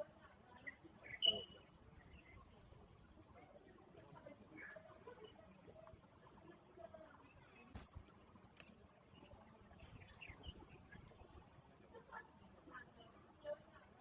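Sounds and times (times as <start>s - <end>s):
faint distant voices: 0.0s - 14.0s.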